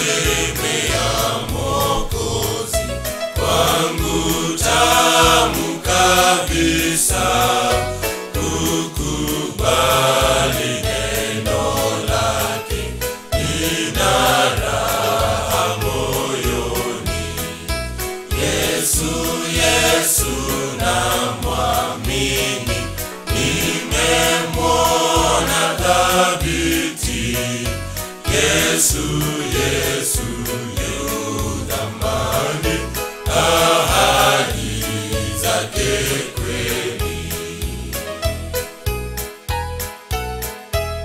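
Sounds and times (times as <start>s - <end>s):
male choir singing in harmony: 0.0s - 38.5s
steady low beat: 0.0s - 39.1s.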